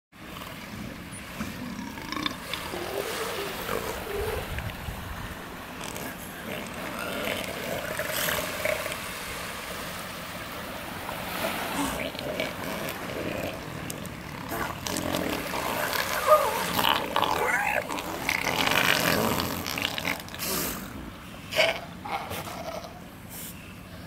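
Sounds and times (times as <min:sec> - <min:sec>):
wind: 0:00.1 - 0:24.0
surf: 0:00.2 - 0:22.5.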